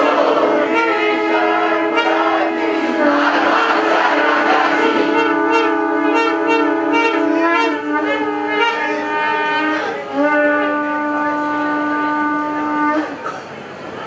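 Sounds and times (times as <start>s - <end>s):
conch shells blowing: 0.0s - 13.3s.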